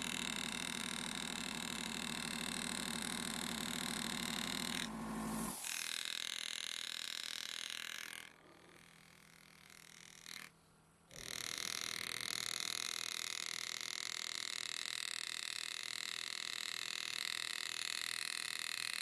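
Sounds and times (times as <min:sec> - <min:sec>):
engraving tool buzzing on metal: 0:00.0 - 0:10.5, 0:11.1 - 0:19.0.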